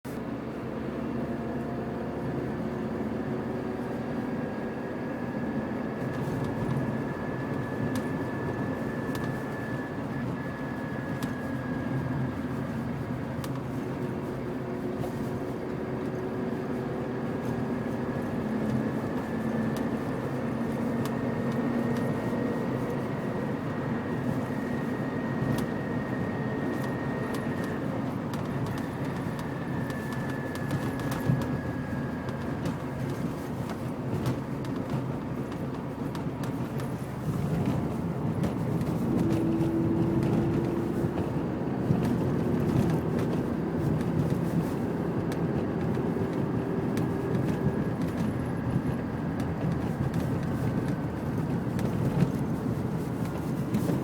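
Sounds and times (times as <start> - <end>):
road noise: 0.0 - 54.0
car engine running: 0.1 - 54.0.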